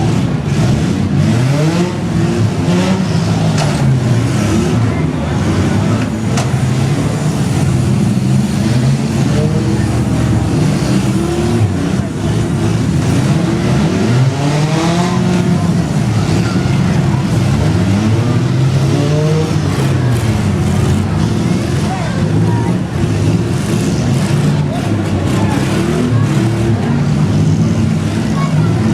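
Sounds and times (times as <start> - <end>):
car engines revving: 0.0 - 28.9.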